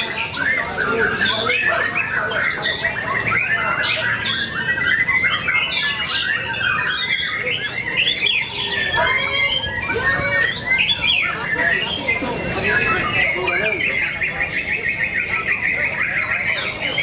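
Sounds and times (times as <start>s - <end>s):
caged songbirds singing: 0.0s - 17.0s.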